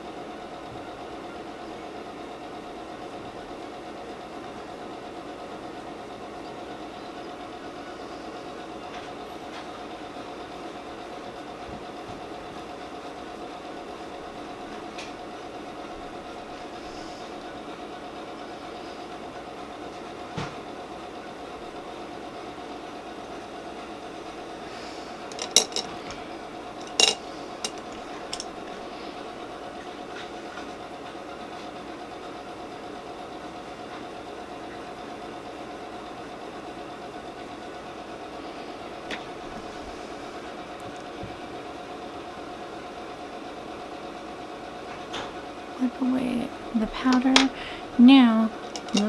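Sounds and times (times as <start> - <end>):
machine hum with mid-pitched tone: 0.0 - 49.0.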